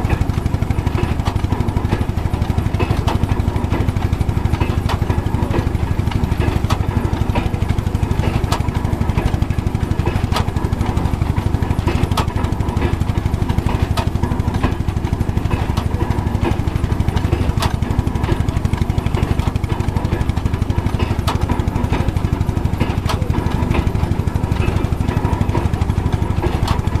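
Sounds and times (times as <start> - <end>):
engine low thumping: 0.0 - 27.0.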